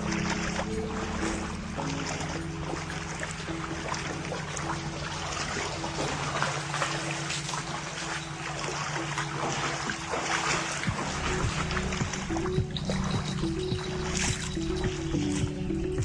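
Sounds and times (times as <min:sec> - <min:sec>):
steady low hum: 0:00.0 - 0:16.0
water pouring and trickling: 0:00.0 - 0:16.0.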